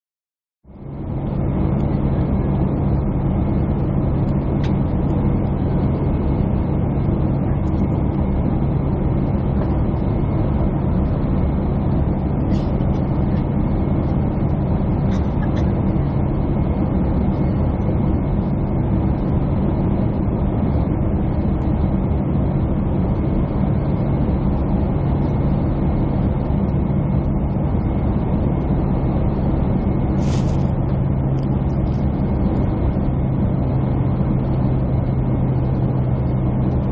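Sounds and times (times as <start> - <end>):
jet cabin engine drone: 0.7 - 36.9.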